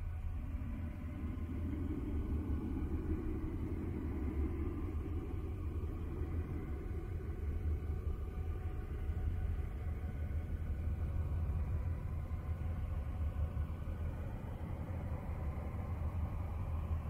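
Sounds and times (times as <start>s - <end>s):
deep bassy ambient noise: 0.0s - 17.0s.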